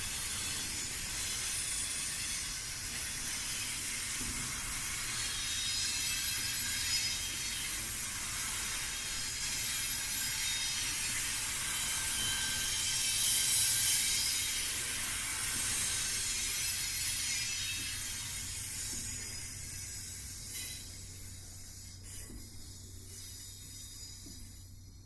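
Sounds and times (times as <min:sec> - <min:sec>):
freight train rolling on rails: 0:00.0 - 0:22.4.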